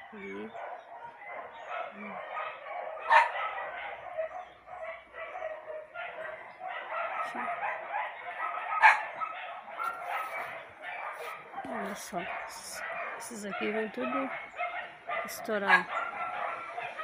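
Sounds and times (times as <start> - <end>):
dog barking and yapping: 0.0 - 17.0.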